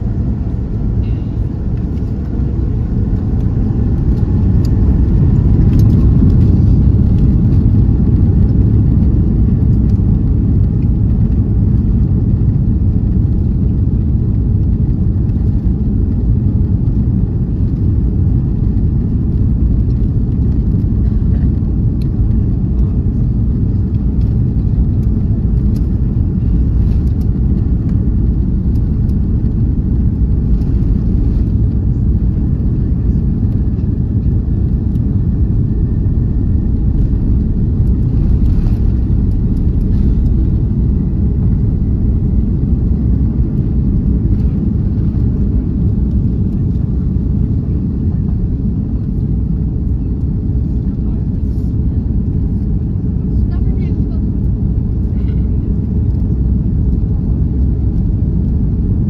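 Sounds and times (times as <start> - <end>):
jet engines whining: 0.0 - 57.2
airliner cabin rumble: 0.0 - 59.0.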